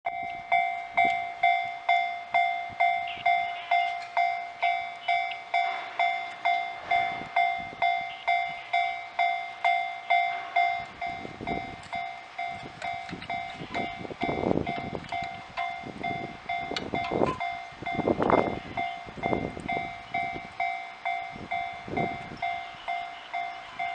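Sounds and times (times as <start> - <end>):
level-crossing warning bell: 0.0 - 23.9.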